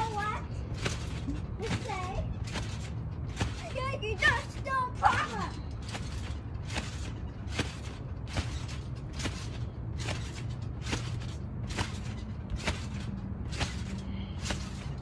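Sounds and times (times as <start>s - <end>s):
trampoline springs creaking: 0.0s - 15.0s.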